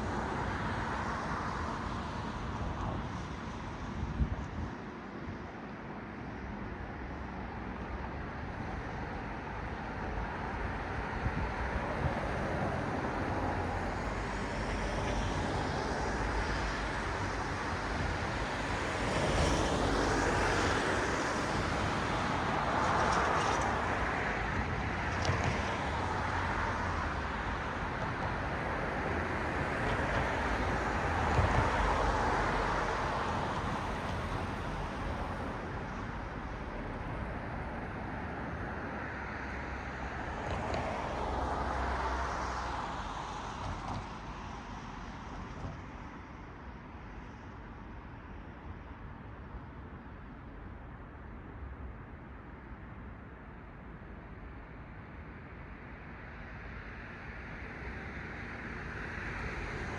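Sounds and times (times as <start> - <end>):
cars passing on a road: 0.0 - 59.9.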